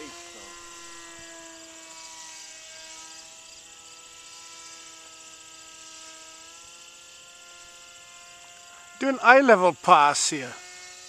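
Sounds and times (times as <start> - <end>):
model plane motor buzzing whine: 0.0 - 11.0.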